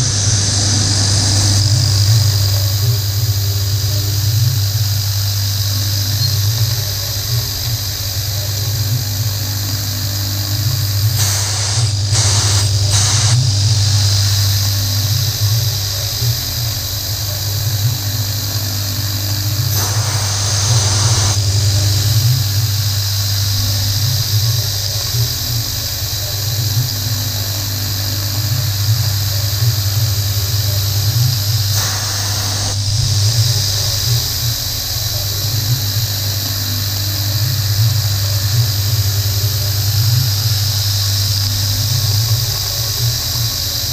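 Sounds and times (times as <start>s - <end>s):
coolant hissing and splashing: 0.0s - 43.9s
high-pitched cutting whine: 0.0s - 43.9s
milling machine spindle hum: 0.0s - 43.9s.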